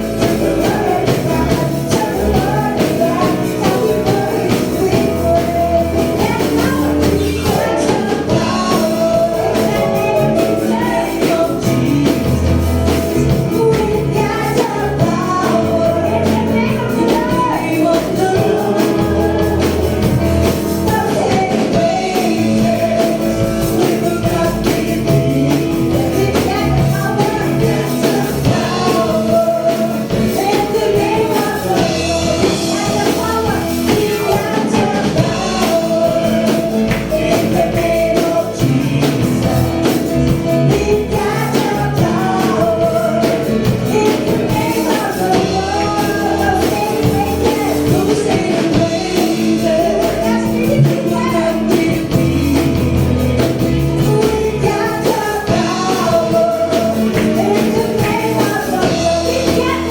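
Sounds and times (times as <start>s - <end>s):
band with drums: 0.0s - 59.9s
gospel singing: 0.0s - 59.9s.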